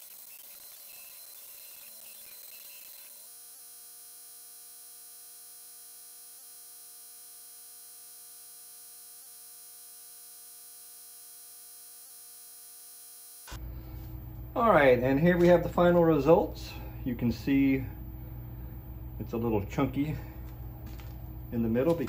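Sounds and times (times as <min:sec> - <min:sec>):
electrical hum with high whine: 0:00.0 - 0:22.0.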